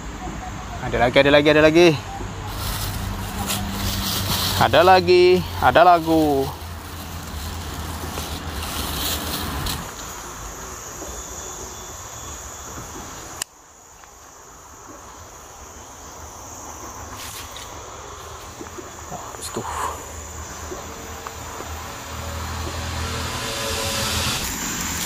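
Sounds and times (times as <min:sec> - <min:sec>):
background hiss: 0:00.0 - 0:25.0
insects droning: 0:00.0 - 0:25.0.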